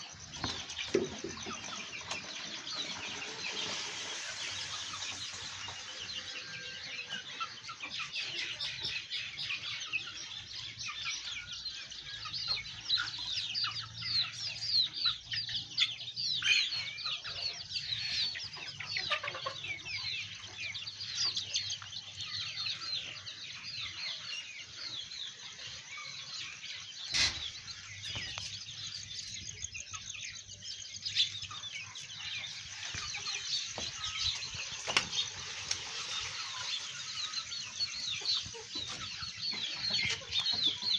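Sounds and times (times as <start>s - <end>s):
chickens clucking: 0.0s - 40.9s
high-pitched chicken calls: 0.4s - 40.9s.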